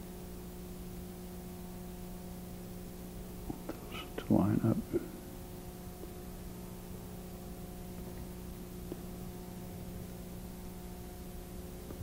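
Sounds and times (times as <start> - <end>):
background hiss: 0.0 - 12.0
electrical mains hum: 0.0 - 12.0.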